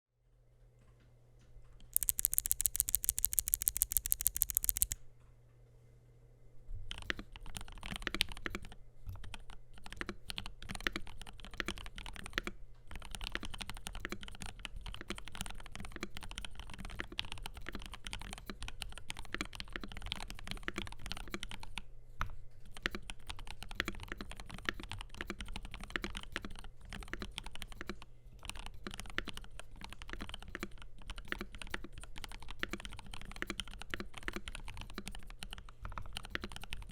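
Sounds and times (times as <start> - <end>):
typing on mechanical keyboard: 2.0 - 5.0, 6.9 - 21.8, 22.6 - 36.9.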